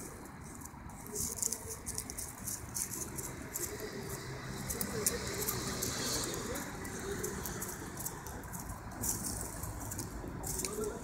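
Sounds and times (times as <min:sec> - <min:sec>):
dry leaves crackling and rustling: 0:00.0 - 0:11.0.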